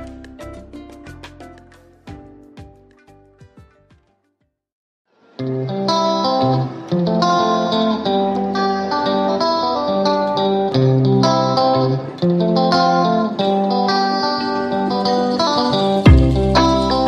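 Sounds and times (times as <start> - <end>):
plucked guitar melody: 0.0 - 4.0, 5.3 - 17.0.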